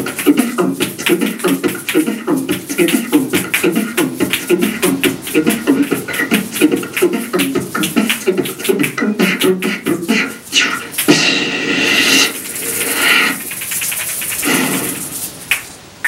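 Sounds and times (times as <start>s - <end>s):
held hissing vocal sound: 0.0s - 15.5s
beatboxing: 0.0s - 15.6s.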